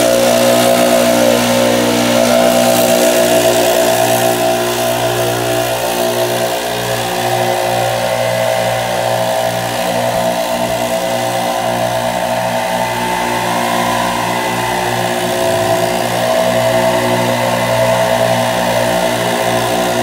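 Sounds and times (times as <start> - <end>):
leaf blower engine running: 0.0 - 20.0.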